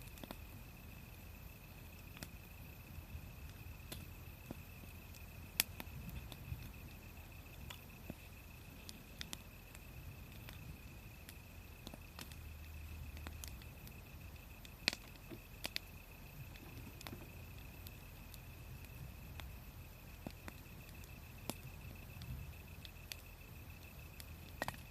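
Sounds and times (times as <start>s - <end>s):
wood fire crackling: 0.0s - 24.9s
faint high-pitched tone: 0.3s - 24.9s.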